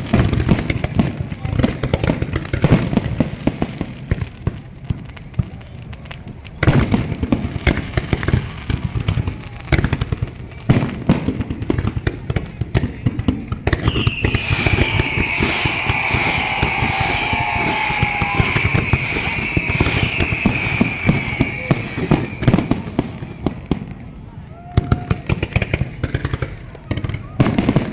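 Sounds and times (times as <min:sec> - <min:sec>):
fireworks bangs: 0:00.0 - 0:27.9
fireworks crackling: 0:00.0 - 0:27.9.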